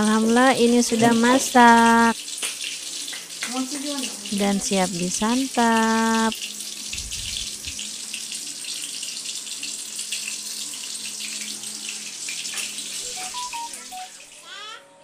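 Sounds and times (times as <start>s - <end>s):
water running from tap: 0.0s - 14.8s.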